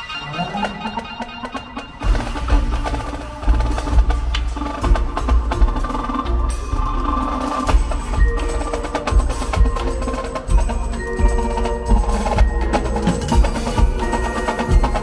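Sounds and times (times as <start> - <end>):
marimbas struck rapidly: 0.0 - 15.0.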